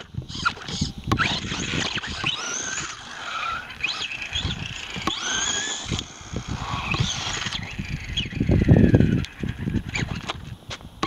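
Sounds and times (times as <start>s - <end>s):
electric motor whining: 0.0s - 10.6s.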